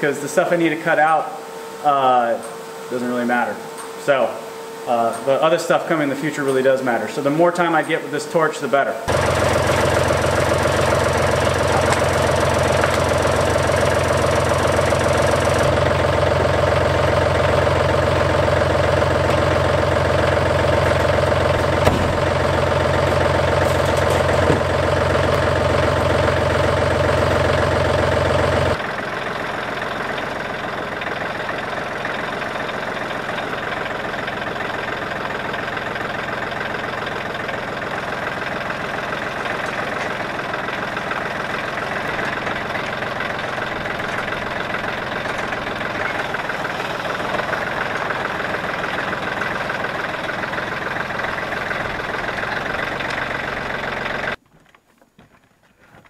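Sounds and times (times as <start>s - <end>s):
tractor driving: 0.0s - 56.0s
diesel tractor engine idling: 4.6s - 54.4s.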